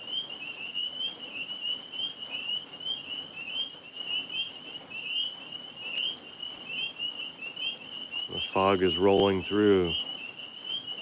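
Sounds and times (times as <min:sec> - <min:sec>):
tree frogs chirping: 0:00.0 - 0:11.0.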